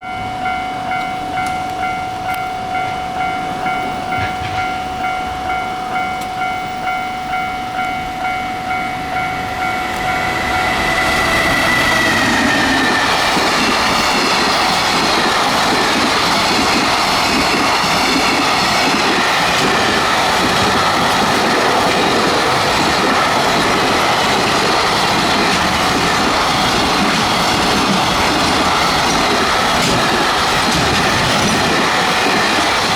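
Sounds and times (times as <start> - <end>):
rhythmic ringing tones: 0.0 - 32.9
train wheels clattering on rail: 0.9 - 6.6, 8.2 - 32.9.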